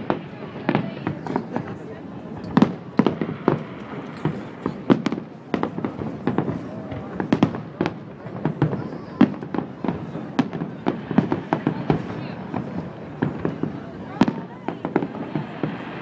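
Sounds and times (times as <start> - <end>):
firework shells bursting: 2.4 - 15.9.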